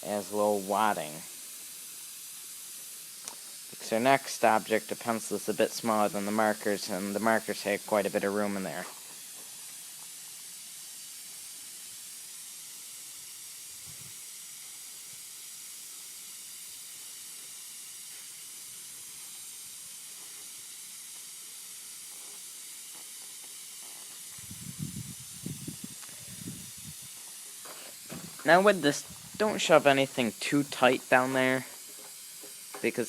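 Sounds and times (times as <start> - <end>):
compressed air hissing: 0.0 - 33.0.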